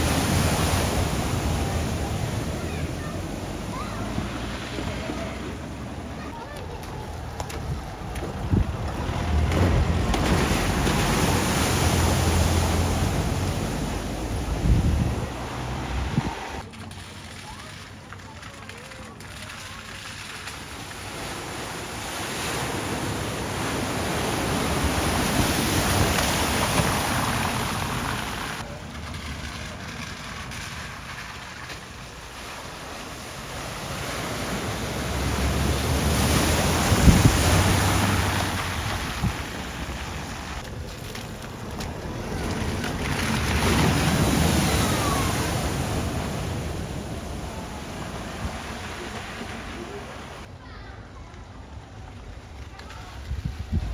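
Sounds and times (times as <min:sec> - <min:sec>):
vehicle splashing through water: 0:00.0 - 0:50.5.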